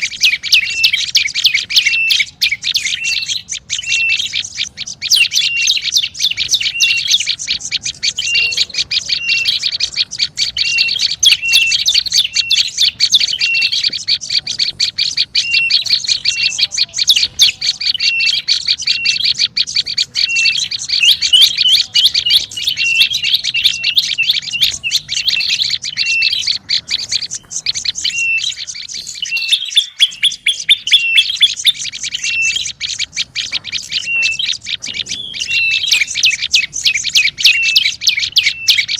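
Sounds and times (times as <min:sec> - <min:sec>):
bird chattering with high chirps: 0:00.0 - 0:38.9.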